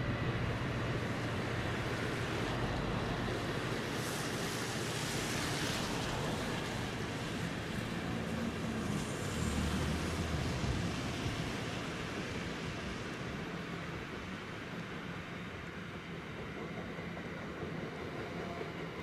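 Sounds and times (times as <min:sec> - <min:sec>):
train wheels rolling on rails: 0:00.0 - 0:19.0.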